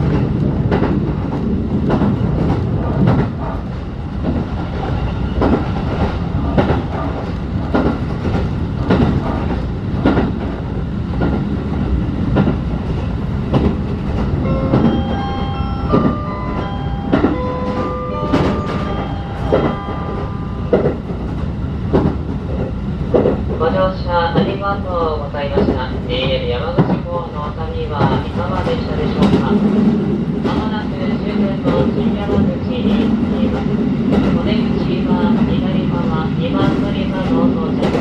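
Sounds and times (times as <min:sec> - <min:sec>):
train running rumble: 0:00.0 - 0:38.0.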